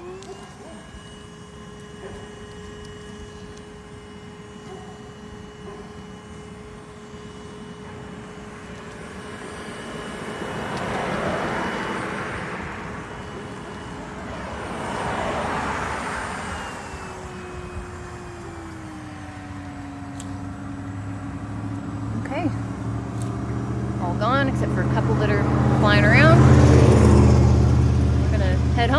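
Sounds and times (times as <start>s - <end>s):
steady hum: 0.0s - 28.9s
vehicles passing by: 0.0s - 28.9s.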